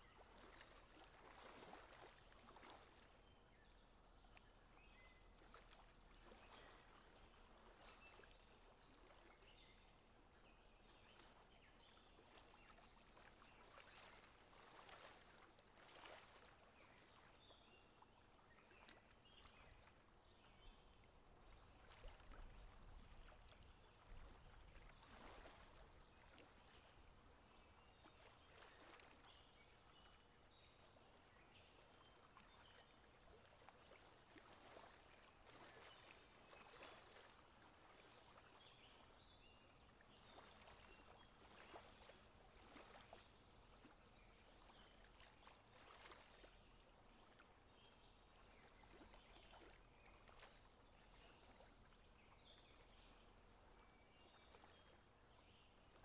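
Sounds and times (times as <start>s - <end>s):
soft river hiss: 0.0s - 56.0s.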